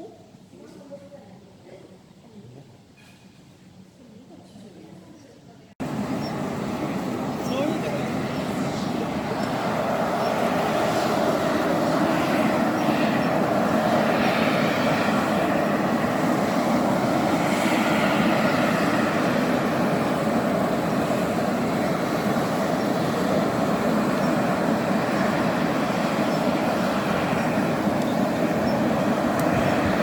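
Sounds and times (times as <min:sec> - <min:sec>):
vehicle running noise: 0:05.8 - 0:30.0.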